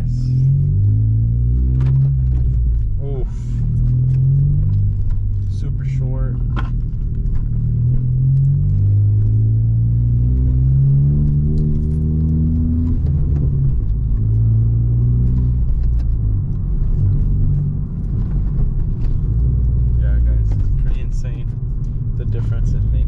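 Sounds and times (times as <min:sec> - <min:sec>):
car engine accelerating through gears: 0:00.0 - 0:23.0.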